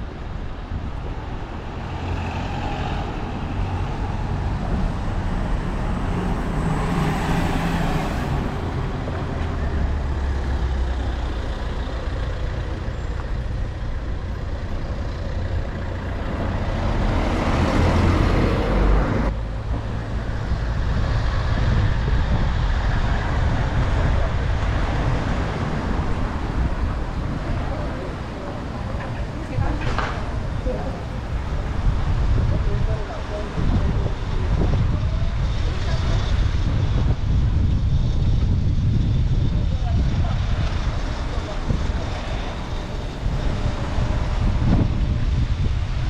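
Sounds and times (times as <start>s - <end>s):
road traffic passing: 0.0s - 46.0s
wind rumble on microphone: 0.0s - 46.0s.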